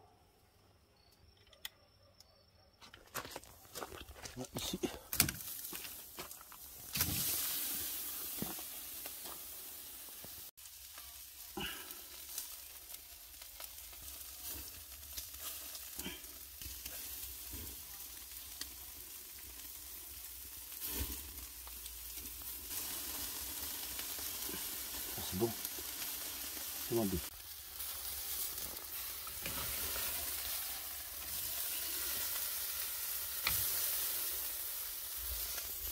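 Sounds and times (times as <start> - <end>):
meat sizzling on a grill: 4.6 - 35.9.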